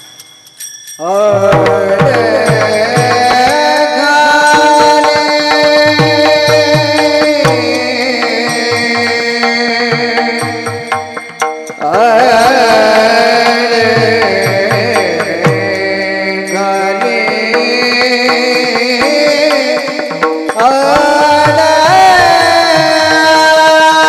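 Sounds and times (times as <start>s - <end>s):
man singing: 1.0s - 24.0s.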